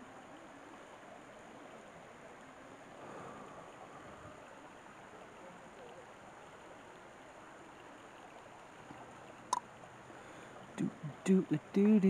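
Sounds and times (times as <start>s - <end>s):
stream trickling over stones: 0.0s - 12.0s.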